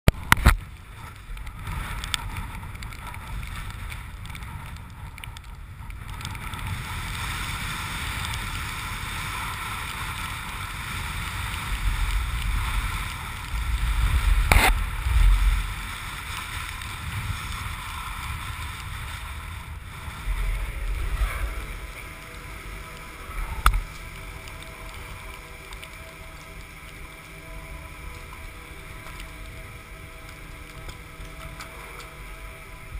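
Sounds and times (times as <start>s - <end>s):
steady whirring drone: 0.1s - 32.9s
wind rumbling on microphone: 0.1s - 32.9s.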